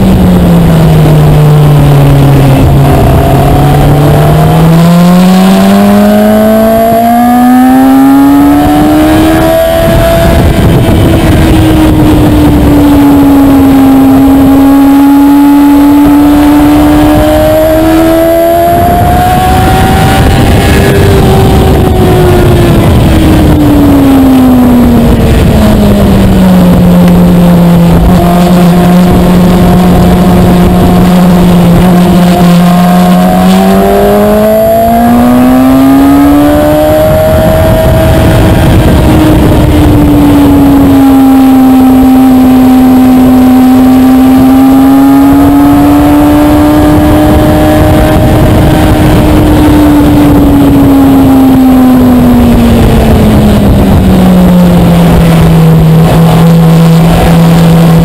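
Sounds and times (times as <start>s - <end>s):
motorcycle engine running: 0.0s - 58.0s
wind rushing: 0.0s - 58.0s.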